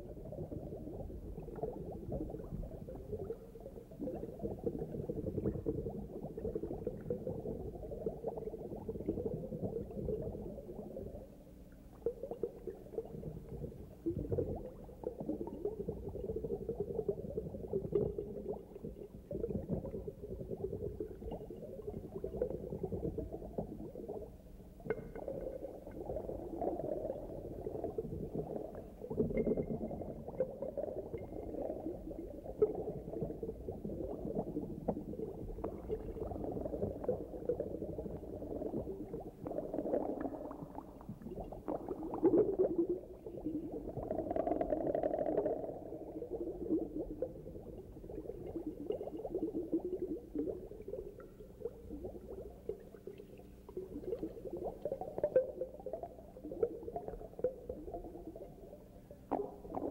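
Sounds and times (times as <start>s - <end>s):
aquarium water bubbling: 0.0s - 59.9s
fine crackle of bubbles: 0.0s - 59.9s.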